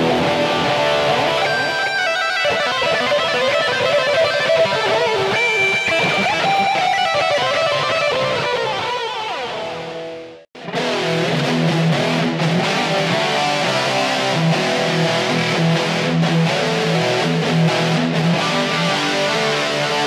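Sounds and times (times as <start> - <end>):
electric guitar playing riffs: 0.0 - 20.0.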